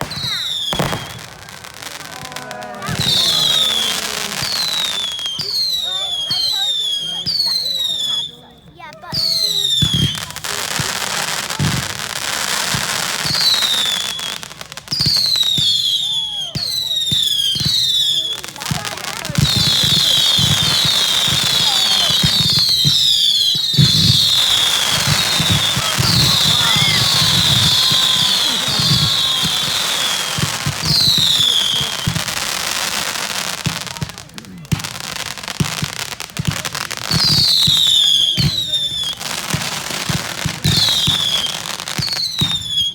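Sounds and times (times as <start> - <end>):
falling firework whistle: 0.0 - 42.9
fireworks bangs: 0.0 - 42.9
fireworks crackling: 0.0 - 42.9.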